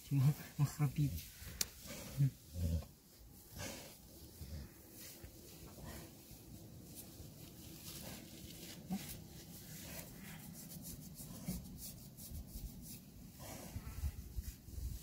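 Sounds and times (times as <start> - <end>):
hand scratching bristly coat: 0.1 - 15.0.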